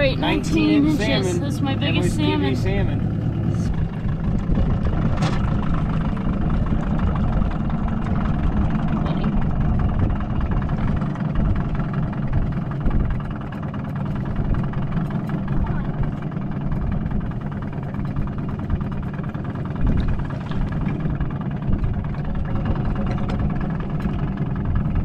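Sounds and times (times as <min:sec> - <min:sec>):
outboard motor idling: 0:00.0 - 0:25.0.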